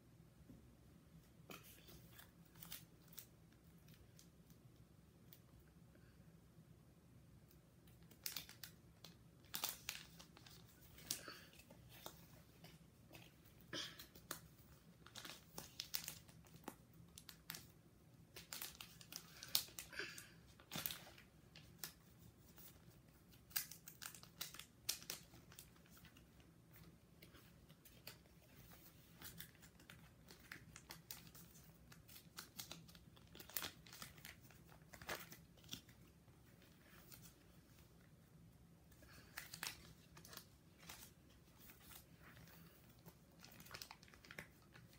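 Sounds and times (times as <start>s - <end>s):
plastic pages crinkling and rustling: 1.5s - 4.6s, 7.8s - 38.1s, 38.9s - 44.9s.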